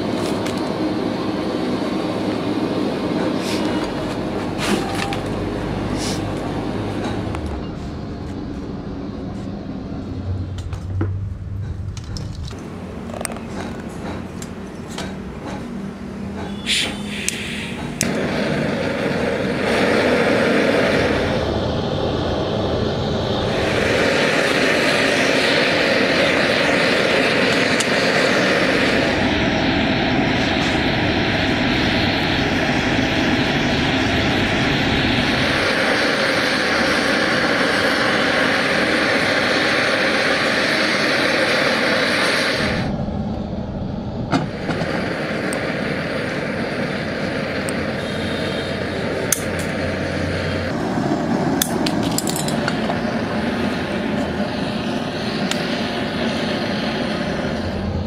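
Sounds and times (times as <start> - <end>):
gas blowtorch rushing: 0.0 - 11.0, 11.7 - 58.0.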